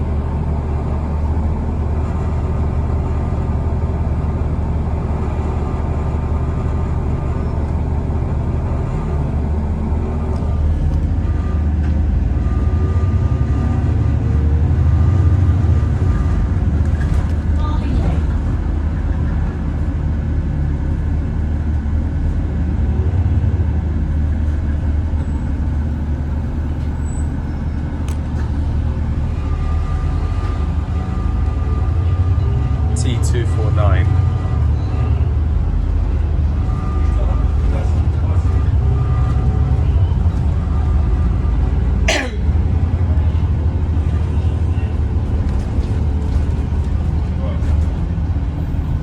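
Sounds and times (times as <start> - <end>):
bus engine drone: 0.0 - 49.0
road noise: 0.0 - 49.0.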